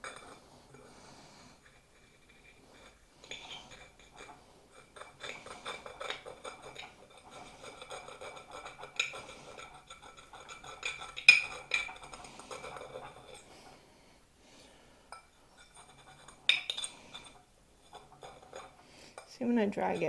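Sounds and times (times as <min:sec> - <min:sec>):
glass scorer scratching china: 0:01.6 - 0:13.5, 0:15.5 - 0:20.0.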